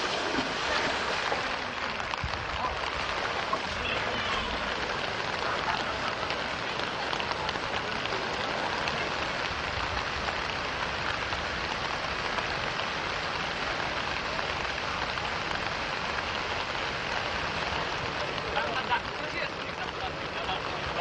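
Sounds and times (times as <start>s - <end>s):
flood torrent rushing: 0.0s - 21.0s
rain falling: 0.0s - 21.0s.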